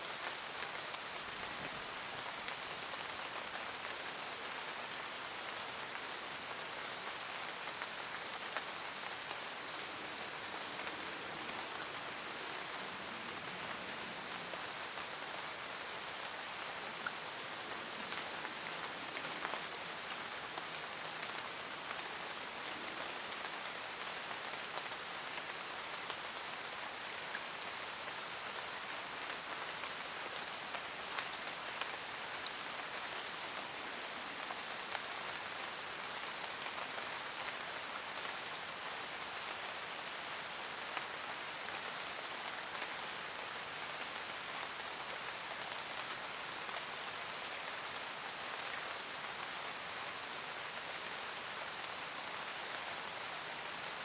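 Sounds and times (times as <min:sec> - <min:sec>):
rain falling in a forest: 0:00.0 - 0:54.0.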